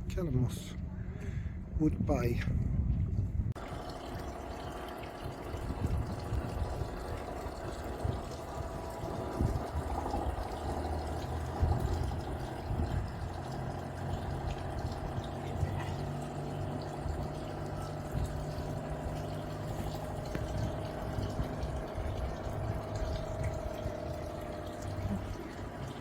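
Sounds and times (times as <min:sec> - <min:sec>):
boat engine running: 0:03.6 - 0:26.0
water moving around hull: 0:03.6 - 0:26.0.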